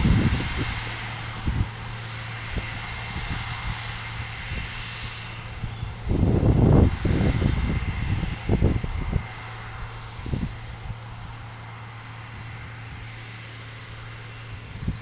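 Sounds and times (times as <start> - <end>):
wind noise on microphone: 0.0 - 11.4, 14.3 - 15.0
sprayer engine running: 0.0 - 15.0.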